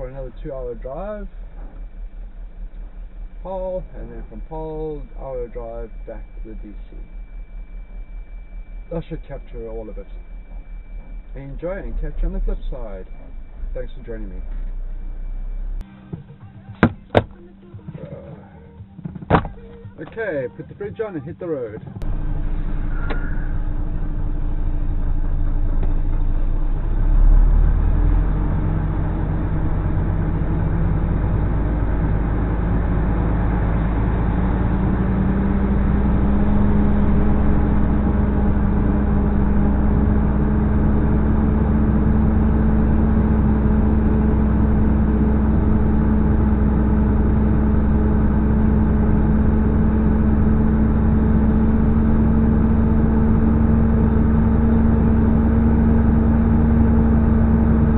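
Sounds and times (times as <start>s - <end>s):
low rumble: 0.0s - 57.9s
truck diesel engine: 0.0s - 57.9s.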